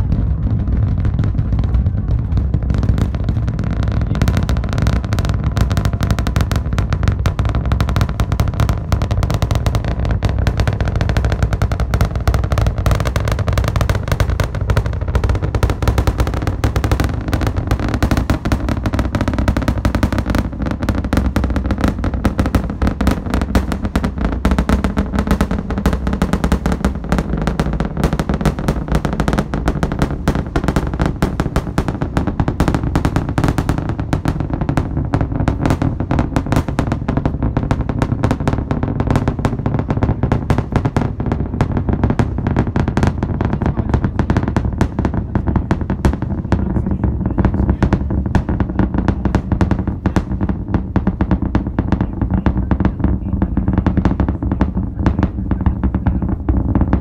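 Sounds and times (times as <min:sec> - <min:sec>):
distant rocket engines roaring: 0:00.0 - 0:57.0.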